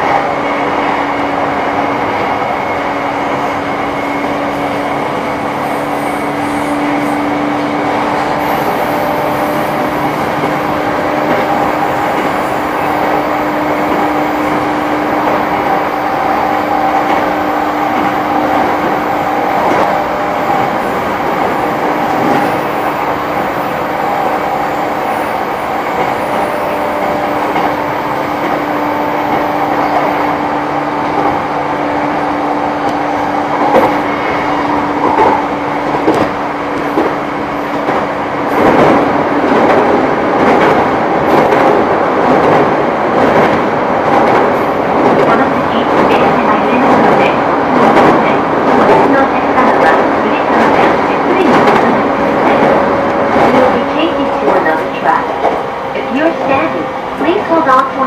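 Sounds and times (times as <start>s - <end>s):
train rolling noise with hum: 0.0s - 58.0s.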